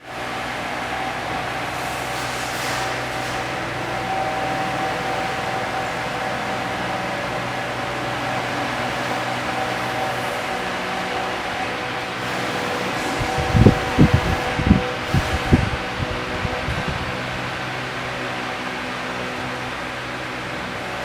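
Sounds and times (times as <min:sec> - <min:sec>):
cnc router machine whine: 0:00.0 - 0:21.0
high hiss: 0:00.1 - 0:19.9.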